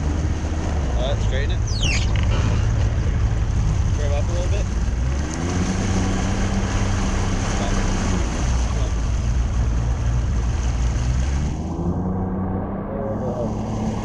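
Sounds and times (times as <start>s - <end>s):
outboard motor humming: 0.0s - 14.0s
rush of wind and water: 0.0s - 14.0s.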